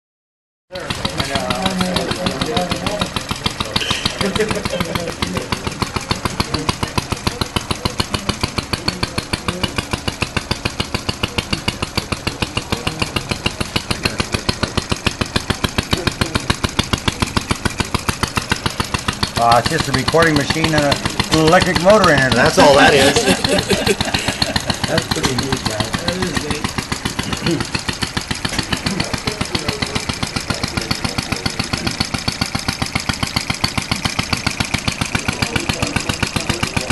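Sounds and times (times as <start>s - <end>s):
single-cylinder engine popping: 0.7s - 36.9s.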